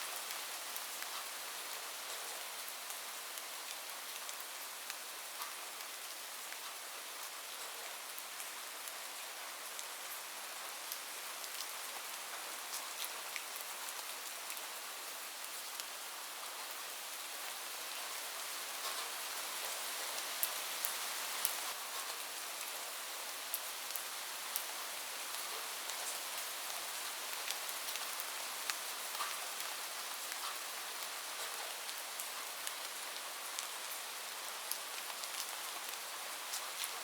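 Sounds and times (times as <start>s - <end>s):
heavy rain on a roof: 0.0s - 37.0s.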